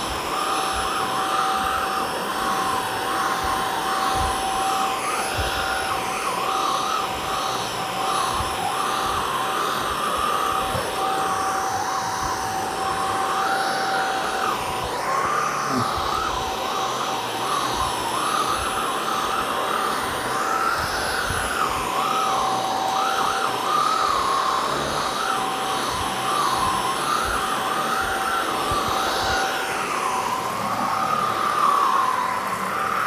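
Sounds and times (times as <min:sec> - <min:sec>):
stick vacuum on carpet: 0:00.0 - 0:33.0.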